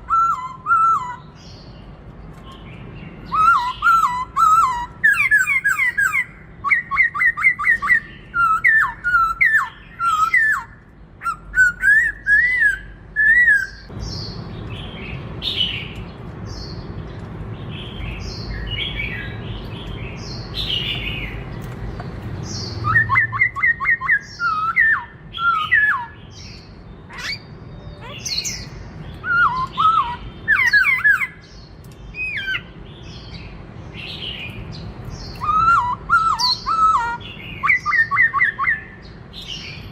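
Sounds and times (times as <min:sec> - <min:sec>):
bird singing whistled notes: 0:00.0 - 0:01.8, 0:02.5 - 0:16.8, 0:22.5 - 0:39.9.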